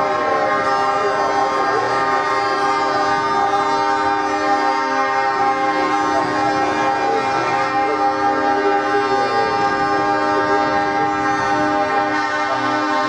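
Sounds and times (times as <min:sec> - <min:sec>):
truck air horns blaring: 0:00.0 - 0:13.0
truck engines running: 0:00.0 - 0:13.0.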